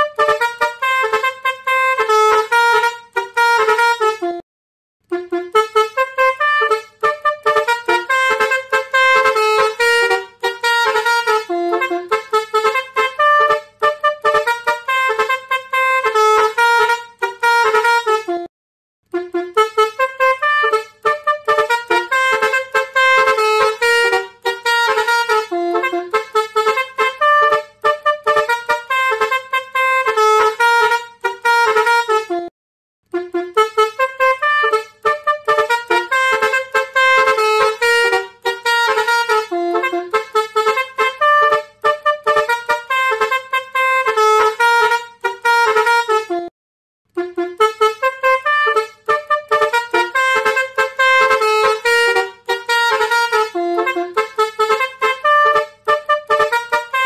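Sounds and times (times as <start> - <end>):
musical air horn playing a fast tune: 0.0 - 4.4, 5.0 - 46.5, 47.1 - 57.0.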